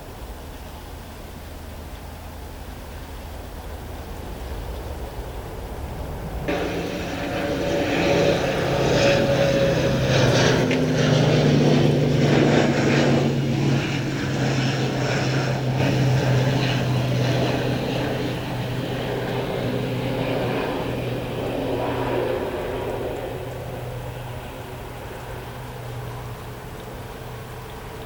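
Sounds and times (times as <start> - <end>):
turboprop aircraft landing: 0.0 - 28.0.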